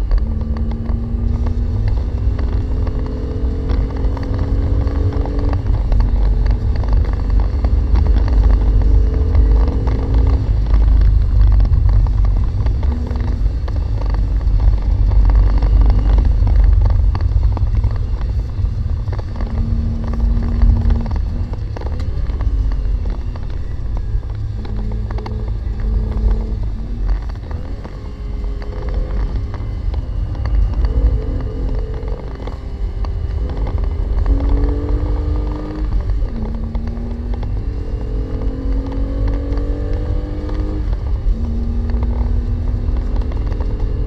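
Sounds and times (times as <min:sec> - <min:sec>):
car engine rumble from inside cabin: 0:00.0 - 0:44.0.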